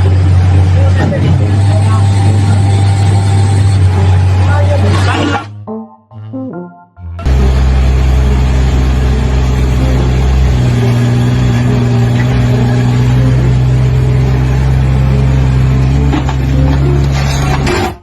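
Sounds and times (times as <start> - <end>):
loud engine running: 0.0 - 4.8, 7.2 - 18.0.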